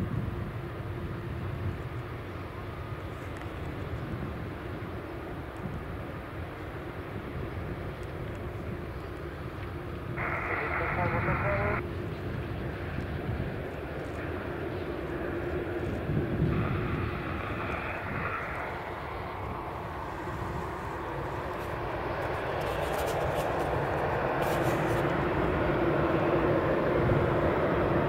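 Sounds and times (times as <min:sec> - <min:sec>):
distant jet engine rumble: 0:00.0 - 0:28.0.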